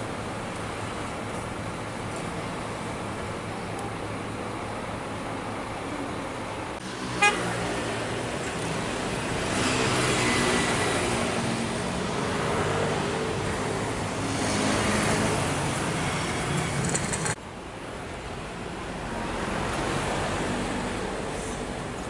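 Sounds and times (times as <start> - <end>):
traffic noise rushing: 0.0 - 22.0
vehicle engines running: 0.0 - 22.0.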